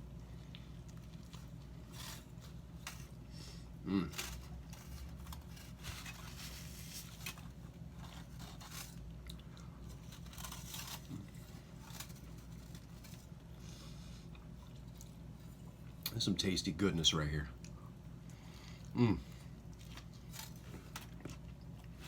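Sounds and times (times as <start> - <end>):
person chewing food: 0.0 - 16.1, 17.6 - 22.0
steady low hum: 0.0 - 22.0.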